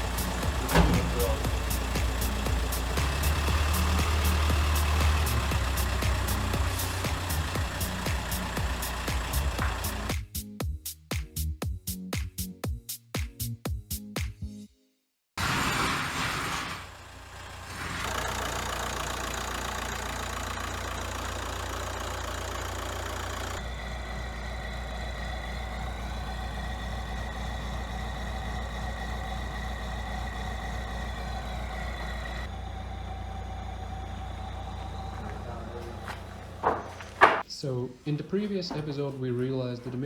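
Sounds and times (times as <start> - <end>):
diesel engine idling: 0.0 - 10.2, 15.4 - 40.0.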